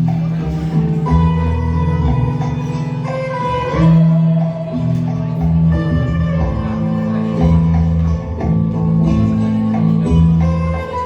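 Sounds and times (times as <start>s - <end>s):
bass line: 0.0s - 11.0s
plucked guitar-like notes: 0.0s - 11.0s.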